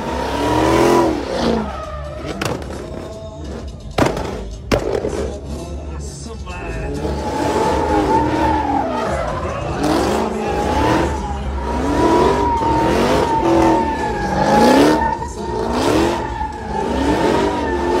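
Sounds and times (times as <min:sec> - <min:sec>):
tyres squealing: 0:00.0 - 0:03.8, 0:06.8 - 0:18.0
car engine revving: 0:00.0 - 0:05.8, 0:06.6 - 0:18.0.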